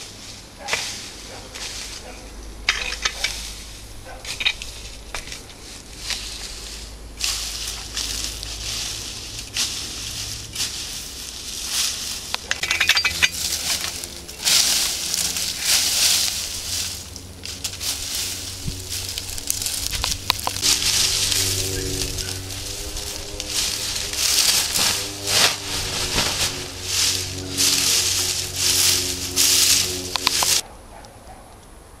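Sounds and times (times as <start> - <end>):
footsteps through dry scrub: 0.0 - 30.6.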